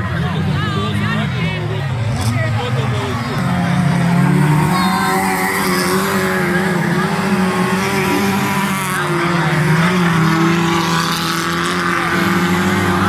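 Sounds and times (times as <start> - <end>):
racing engines at high revs: 0.0 - 13.0.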